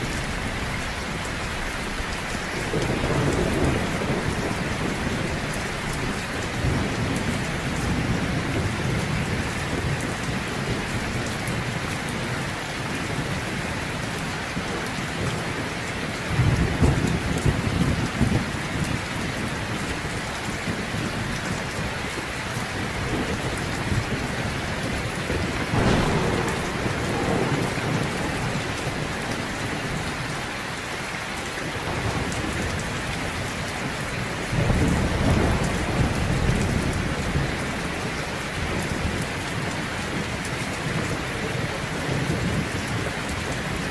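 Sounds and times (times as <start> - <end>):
heavy rain: 0.0 - 43.9
low rumble of thunder: 0.0 - 43.9.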